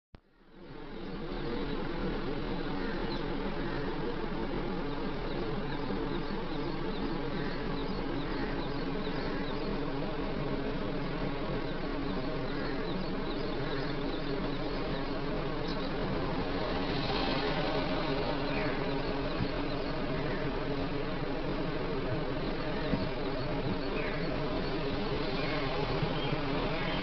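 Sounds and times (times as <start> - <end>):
insect drone: 0.2 - 27.0.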